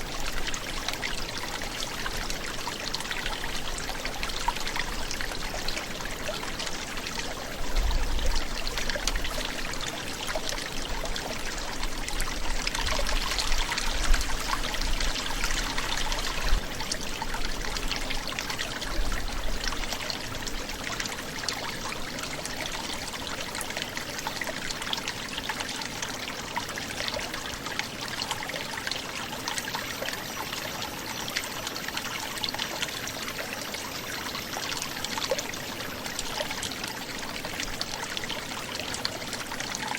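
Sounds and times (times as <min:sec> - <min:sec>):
brook gurgling over stones: 0:00.0 - 0:39.9.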